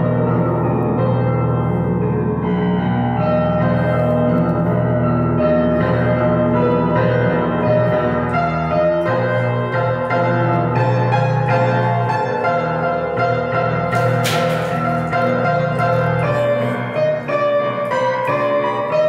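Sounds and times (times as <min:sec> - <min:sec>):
piano-like keyboard chords: 0:00.0 - 0:19.0.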